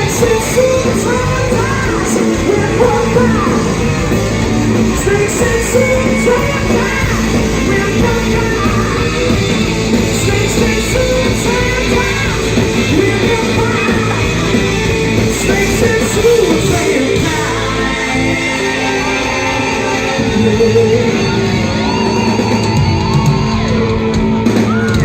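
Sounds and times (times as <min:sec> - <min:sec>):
live rock band with singer: 0:00.0 - 0:25.0.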